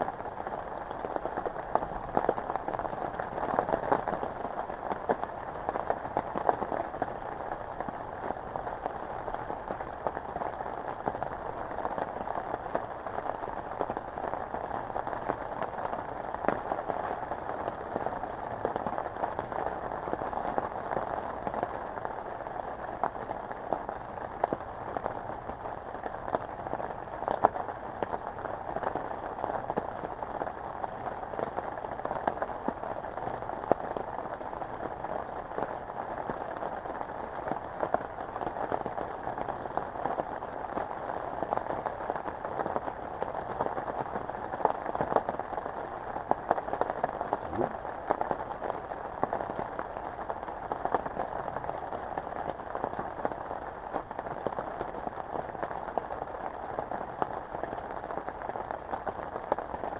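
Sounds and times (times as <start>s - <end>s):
rain falling: 0.0s - 59.9s
raindrops ticking: 0.0s - 59.9s.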